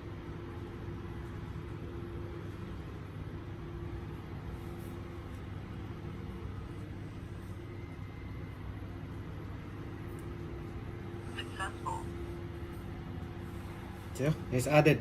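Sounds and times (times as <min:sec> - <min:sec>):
low background hum and rumble: 0:00.0 - 0:15.0.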